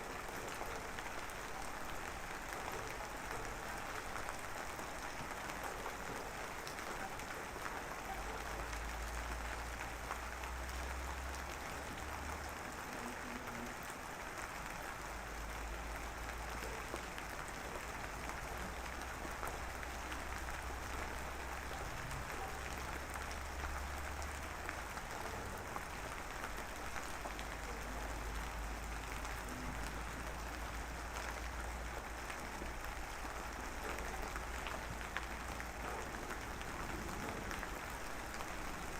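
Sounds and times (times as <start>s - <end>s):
light drizzle pattering: 0.0s - 38.9s.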